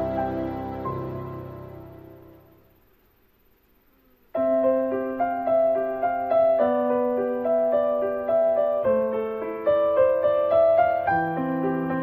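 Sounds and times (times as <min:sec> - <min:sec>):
piano piece: 0:00.0 - 0:02.8, 0:04.4 - 0:12.0.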